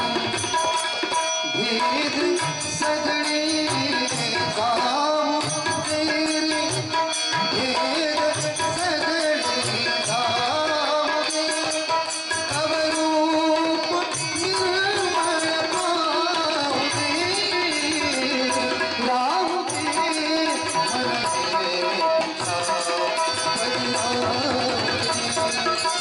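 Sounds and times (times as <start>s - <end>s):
harmonium: 0.0s - 26.0s
man singing: 0.0s - 26.0s
tabla rhythm: 0.0s - 26.0s.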